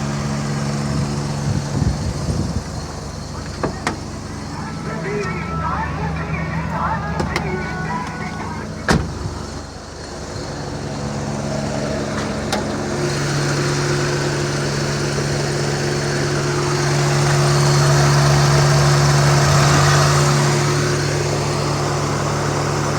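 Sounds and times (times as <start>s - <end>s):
small petrol engine idling: 0.0s - 22.9s.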